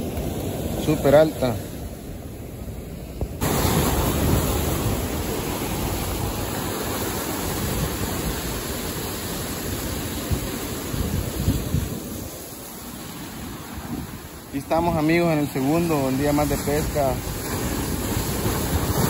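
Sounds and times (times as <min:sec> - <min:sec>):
ocean surf washing over rocks: 0:00.0 - 0:19.0.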